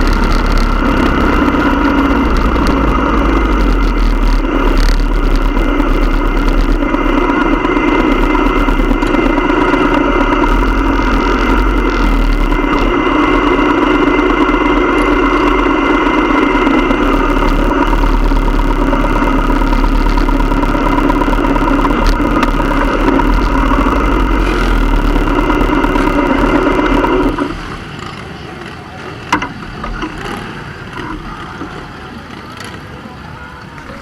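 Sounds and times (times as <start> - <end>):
motorcycle engine running: 0.0 - 33.1.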